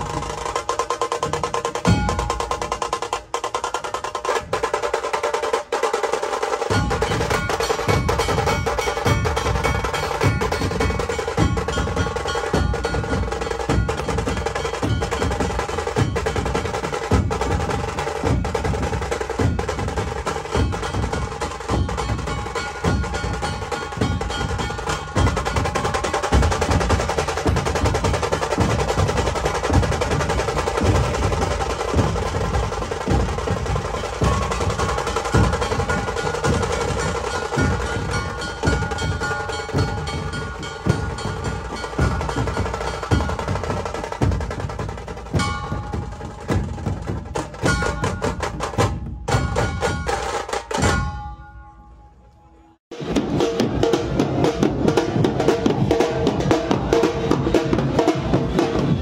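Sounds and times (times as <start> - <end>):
fast rhythmic drumming: 0.0 - 51.2, 52.9 - 59.0.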